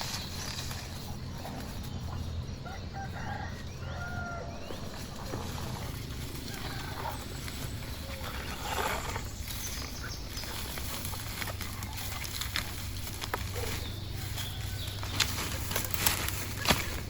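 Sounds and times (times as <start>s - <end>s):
farm animal call: 0.0s - 17.0s.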